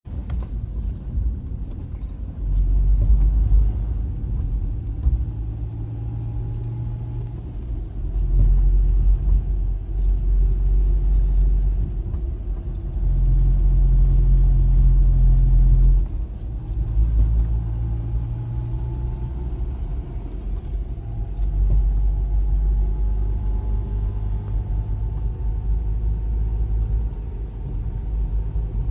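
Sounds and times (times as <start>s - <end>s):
car engine rumbling: 0.0s - 28.9s.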